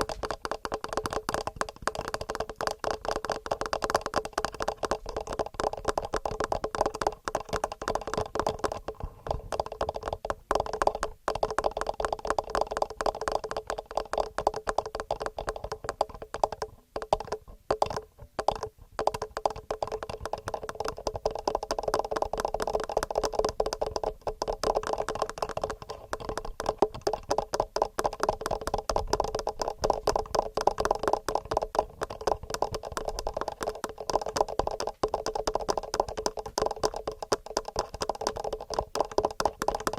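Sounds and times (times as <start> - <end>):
fingernail tapping on microphone: 0.0 - 39.9.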